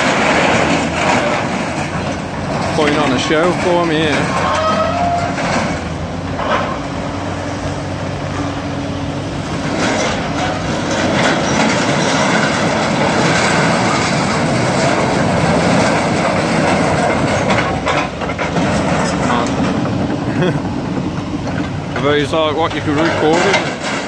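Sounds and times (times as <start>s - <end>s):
metal crashing and scraping: 0.0s - 7.1s, 9.4s - 24.0s
excavator engine under load: 0.0s - 24.0s.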